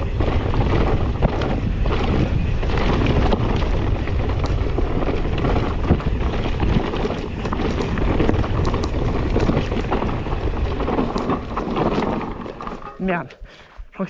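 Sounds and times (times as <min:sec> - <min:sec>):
wind buffeting microphone: 0:00.0 - 0:12.8
bike tyres and frame rattling: 0:00.0 - 0:13.4.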